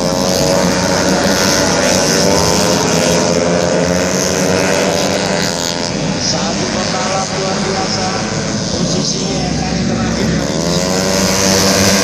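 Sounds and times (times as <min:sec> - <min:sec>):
racing scooter engines whining: 0:00.0 - 0:12.0.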